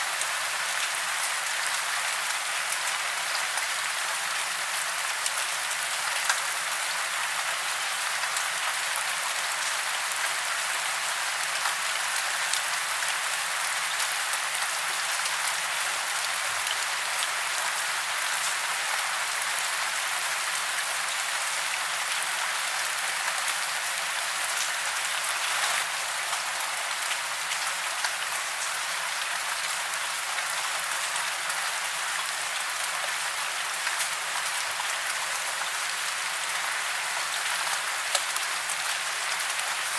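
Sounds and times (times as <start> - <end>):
rain falling on forest: 0.0 - 39.9.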